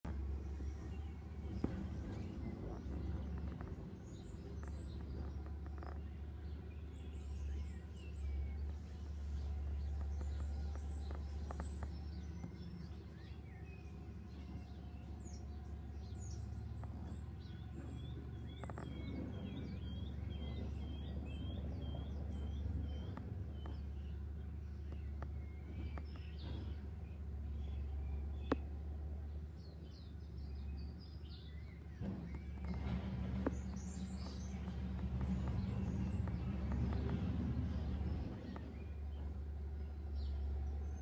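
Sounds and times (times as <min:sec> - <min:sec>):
steady low rumble: 0:00.0 - 0:41.0
birds chirping and calling: 0:00.1 - 0:28.8, 0:29.5 - 0:41.0.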